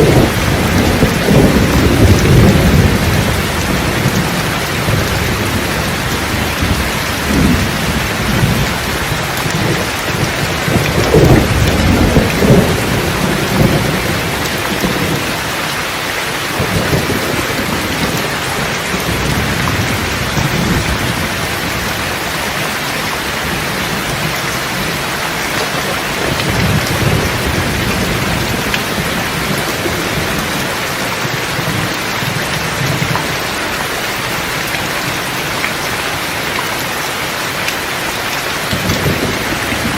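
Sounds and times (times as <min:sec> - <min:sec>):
rolling thunder: 0:00.0 - 0:22.6, 0:23.2 - 0:33.5, 0:38.6 - 0:39.9
heavy rain: 0:00.0 - 0:39.9.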